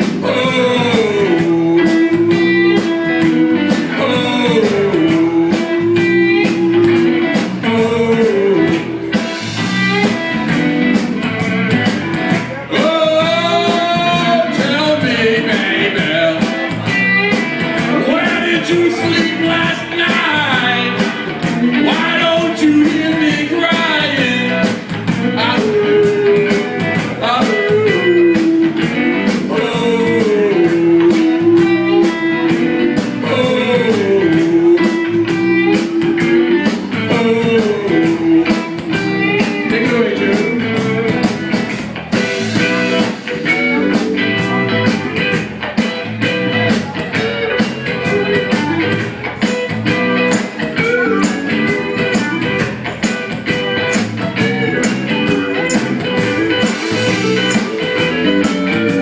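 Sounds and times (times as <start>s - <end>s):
blues band playing live: 0.0s - 59.0s
electric guitar bending notes: 0.0s - 59.0s
steady drum beat: 0.0s - 59.0s.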